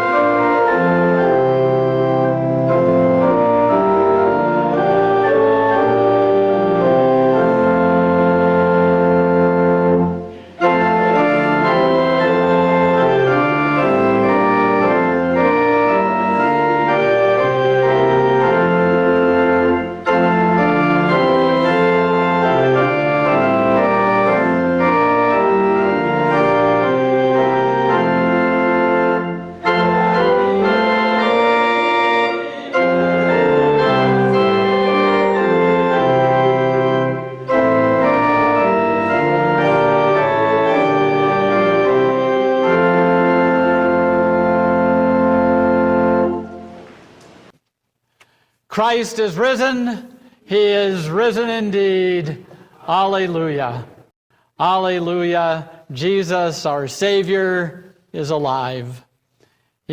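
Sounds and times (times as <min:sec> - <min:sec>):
church organ playing a hymn: 0:00.0 - 0:47.6, 0:48.4 - 0:59.9.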